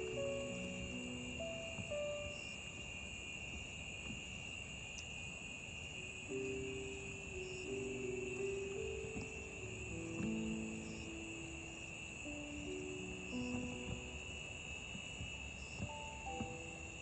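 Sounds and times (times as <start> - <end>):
soft background music: 0.0 - 2.8, 6.1 - 17.0
crickets trilling: 0.0 - 17.0.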